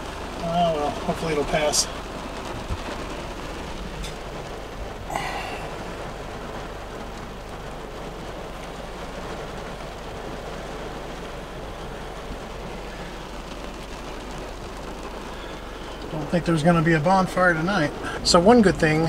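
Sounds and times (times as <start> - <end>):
rain drumming on car roof: 0.0 - 19.0.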